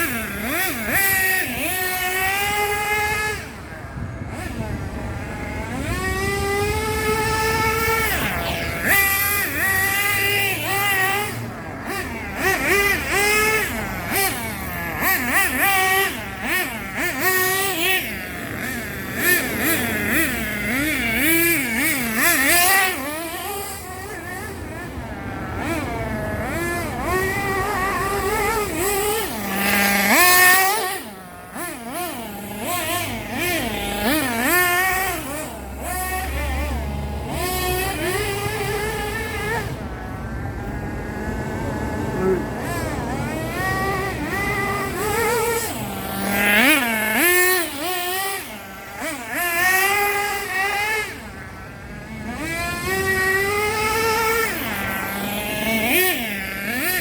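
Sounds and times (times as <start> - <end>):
small nitro engine revving: 0.0 - 57.0.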